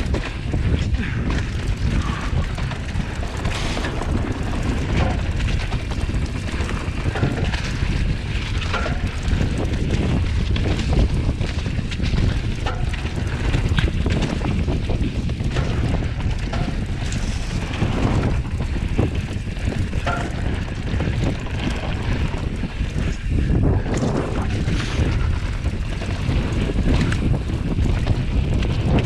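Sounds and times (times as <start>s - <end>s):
bike knocking and rattling: 0.0s - 29.0s
bike tyres on dirt: 0.0s - 29.0s
wind buffeting microphone: 0.0s - 29.0s.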